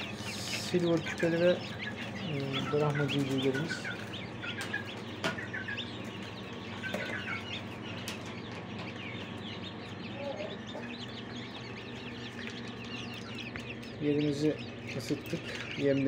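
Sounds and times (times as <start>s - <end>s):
chicks peeping: 0.0s - 16.0s
steady low hum: 0.0s - 16.0s.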